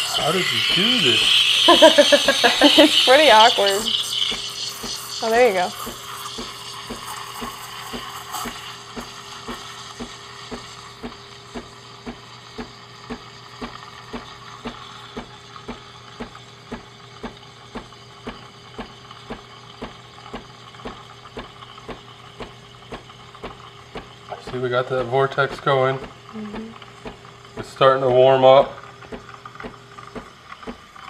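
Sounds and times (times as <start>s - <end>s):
steam wand hissing into milk: 0.0s - 27.2s
machine pump pulsing: 0.0s - 31.0s.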